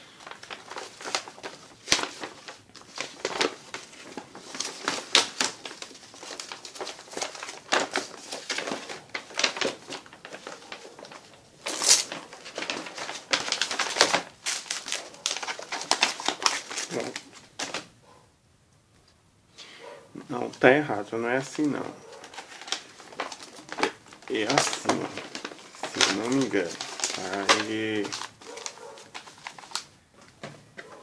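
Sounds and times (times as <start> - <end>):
paper rustling and crinkling: 0.0 - 18.0, 20.3 - 31.0.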